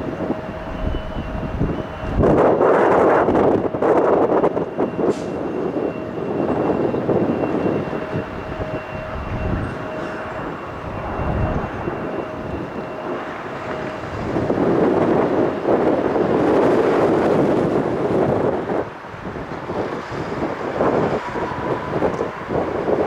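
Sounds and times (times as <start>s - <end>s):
jet engines landing: 0.0s - 23.0s.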